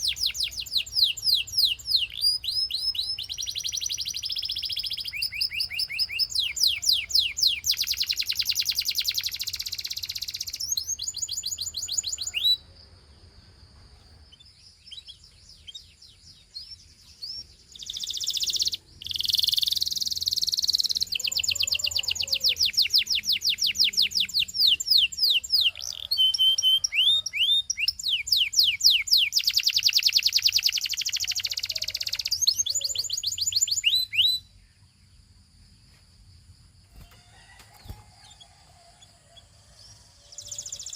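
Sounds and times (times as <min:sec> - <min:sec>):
canary singing: 0:00.0 - 0:12.6, 0:14.1 - 0:35.1, 0:37.0 - 0:40.9.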